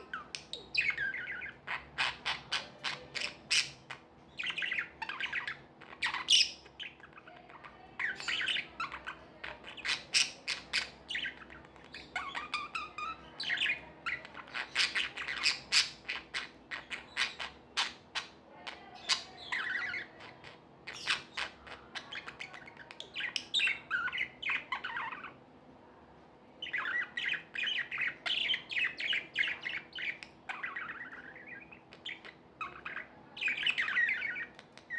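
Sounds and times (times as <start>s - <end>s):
budgerigars chirping and squawking: 0.0s - 25.4s, 26.6s - 34.9s.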